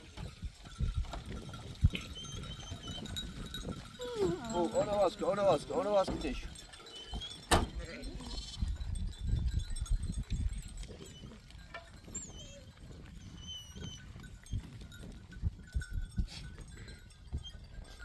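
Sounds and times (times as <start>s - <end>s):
herd of sheep and goats: 0.0s - 18.0s.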